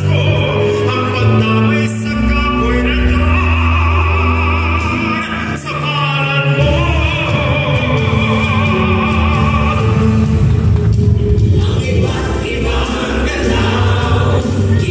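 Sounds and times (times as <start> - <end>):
man singing with vibrato: 0.0 - 10.7, 11.4 - 14.9
accompaniment with deep bass: 0.0 - 14.9.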